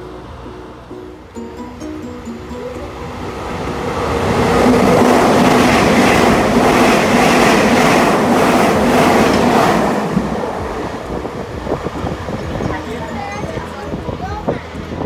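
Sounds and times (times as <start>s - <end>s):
electric train passing at speed: 0.0s - 15.0s.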